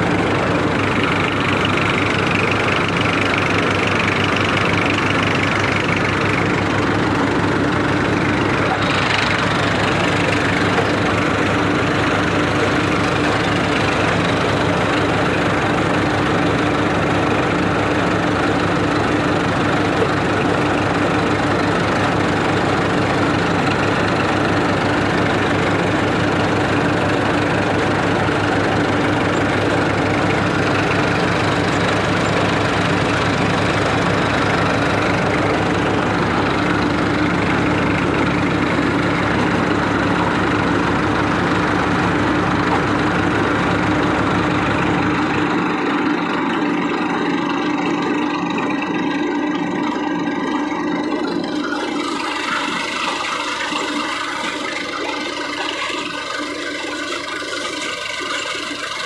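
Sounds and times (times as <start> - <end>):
threshing machine: 0.0 - 59.0
tractor diesel engine running: 0.0 - 59.0.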